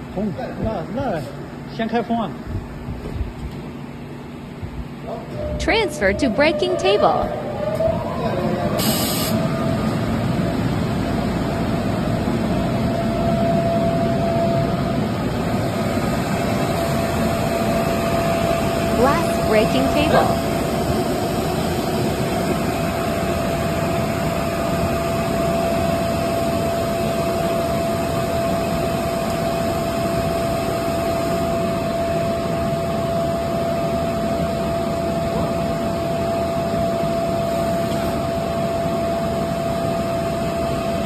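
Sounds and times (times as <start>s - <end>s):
blower rushing with whine: 1.7s - 41.0s.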